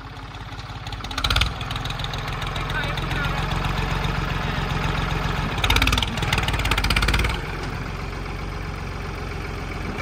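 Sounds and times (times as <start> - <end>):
tractor diesel engine revving: 0.0 - 10.0.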